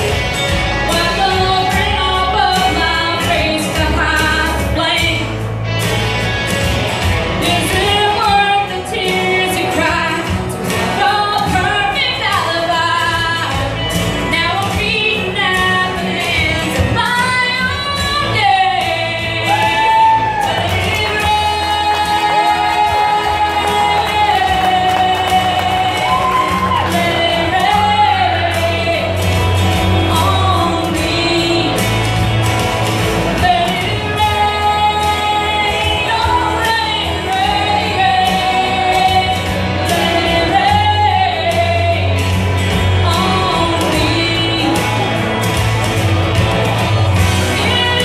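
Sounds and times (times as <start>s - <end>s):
backing music: 0.0s - 48.0s
woman singing into microphone: 0.8s - 5.5s, 7.4s - 32.4s, 33.1s - 45.5s, 47.2s - 48.0s.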